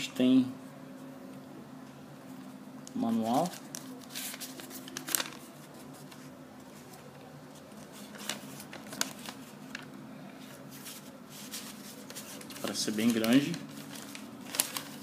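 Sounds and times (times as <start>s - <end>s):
paper rustling and crackling: 2.9s - 15.0s.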